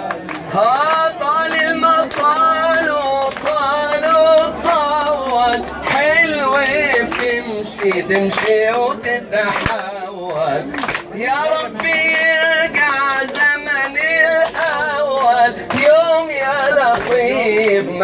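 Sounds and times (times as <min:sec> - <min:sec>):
crowd clapping in time: 0:00.0 - 0:18.0.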